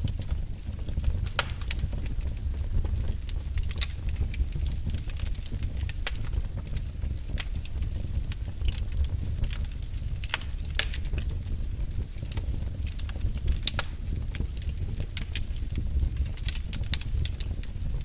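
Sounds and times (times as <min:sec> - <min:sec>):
fire crackling and popping: 0:00.0 - 0:18.0
fire rumbling in a fireplace: 0:00.0 - 0:18.0.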